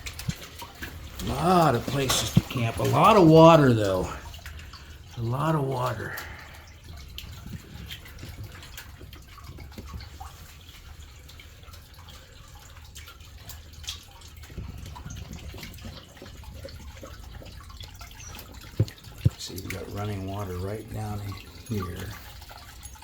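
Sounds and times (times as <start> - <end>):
water drips: 0.0 - 23.0
water trickling over rocks: 0.0 - 23.0.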